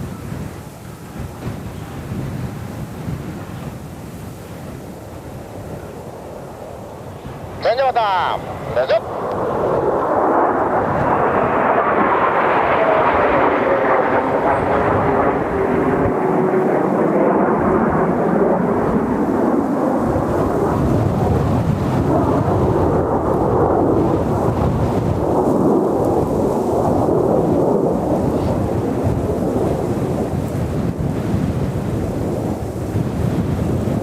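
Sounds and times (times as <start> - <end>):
jet roar: 0.0 - 34.0
faint falling jet whine: 4.4 - 33.1.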